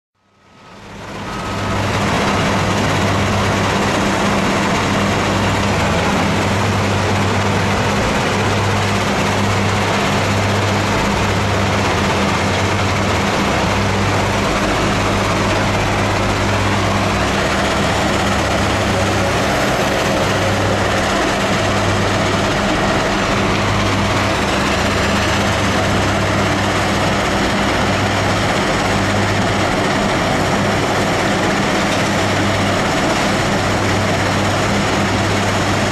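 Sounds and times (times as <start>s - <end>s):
diesel engine running: 0.2s - 35.9s.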